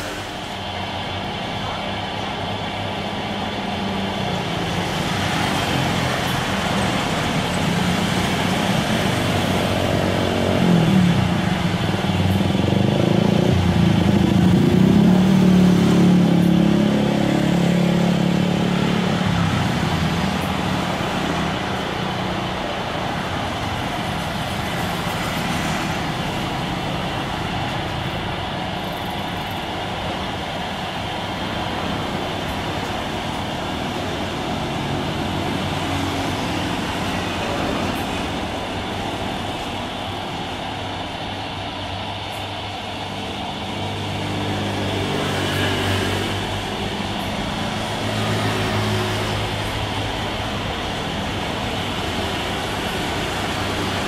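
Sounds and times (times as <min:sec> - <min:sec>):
traffic noise: 0:00.0 - 0:54.0.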